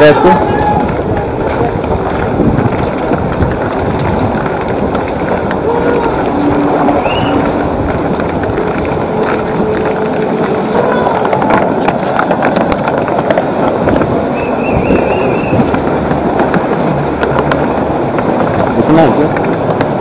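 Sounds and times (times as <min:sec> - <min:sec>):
river water roaring: 0:00.0 - 0:20.0
footsteps on snow and ice: 0:00.2 - 0:20.0.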